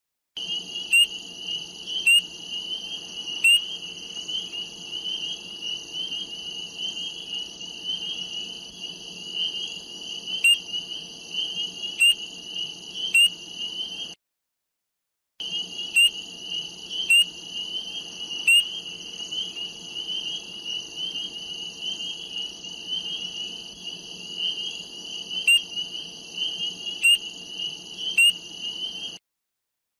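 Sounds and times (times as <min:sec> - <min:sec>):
sharp frog calls: 0:00.4 - 0:14.2, 0:15.4 - 0:29.2.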